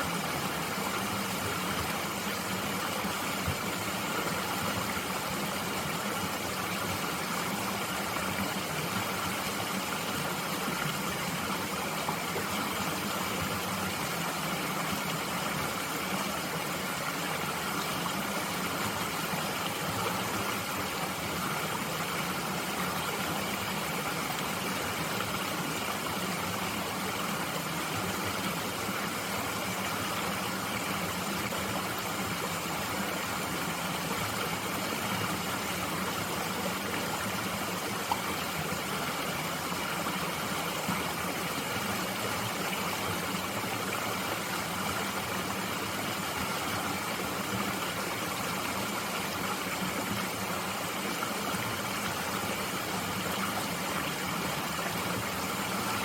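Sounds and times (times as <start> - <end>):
mountain stream running: 0.0 - 56.0.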